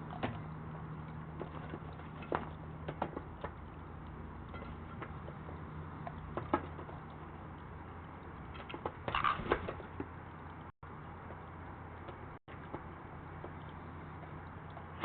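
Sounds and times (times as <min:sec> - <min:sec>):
crows pecking and stepping: 0:00.0 - 0:15.0
low hum: 0:00.0 - 0:15.0.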